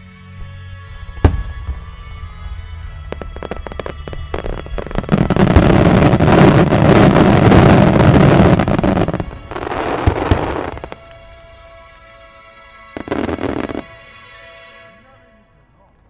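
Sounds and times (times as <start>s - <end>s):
fireworks bangs and crackling: 1.0s - 14.1s.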